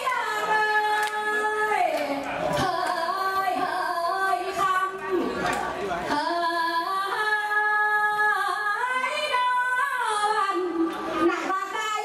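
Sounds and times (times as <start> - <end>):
woman singing into microphone: 0.0 - 5.4, 6.1 - 12.0.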